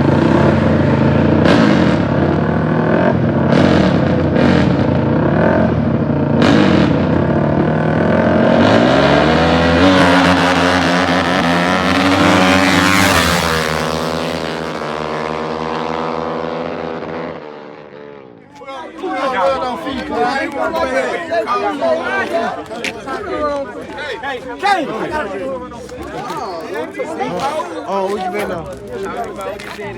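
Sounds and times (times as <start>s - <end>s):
dirt bike engines revving: 0.0s - 17.8s, 18.5s - 29.9s.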